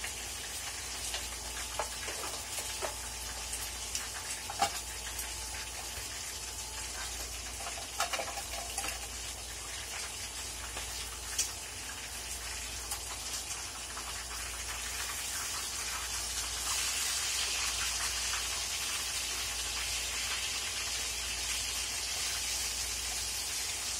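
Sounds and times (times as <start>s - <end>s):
food sizzling in a pan: 0.0s - 23.9s.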